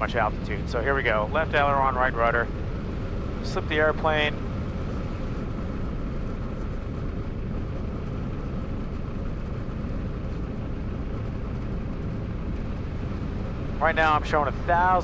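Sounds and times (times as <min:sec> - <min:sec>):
idling airplane engine: 0:00.0 - 0:15.0.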